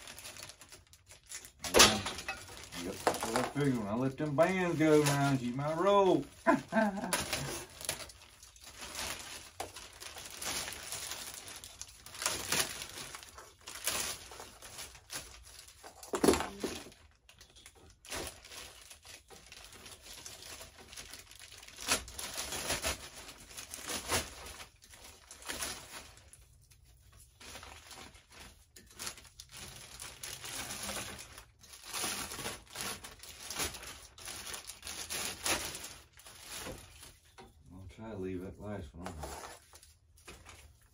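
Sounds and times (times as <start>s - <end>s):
plastic wrap tearing: 0.0s - 37.3s
plastic wrap crinkling: 0.0s - 37.6s.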